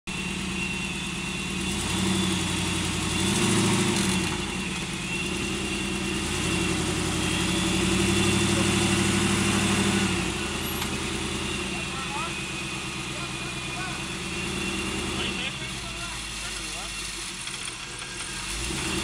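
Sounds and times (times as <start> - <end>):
rc truck engine revving: 0.1 - 19.0.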